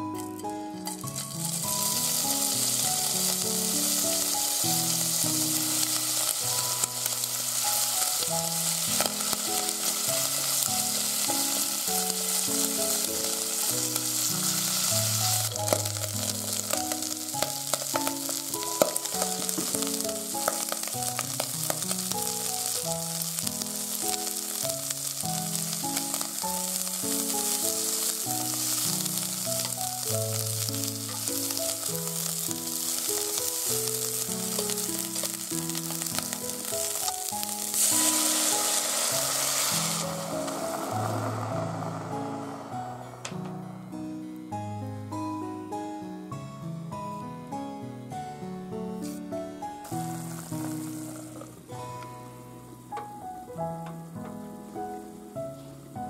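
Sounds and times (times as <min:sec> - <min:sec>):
bacon sizzling in oil: 0:00.0 - 0:42.8, 0:49.8 - 0:52.0
light background music: 0:00.0 - 0:56.0.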